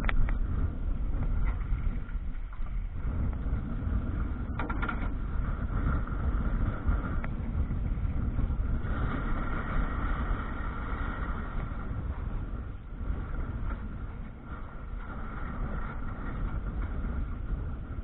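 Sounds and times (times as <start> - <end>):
water rushing along hull: 0.0 - 18.0
wind rumbling on microphone: 0.0 - 18.0.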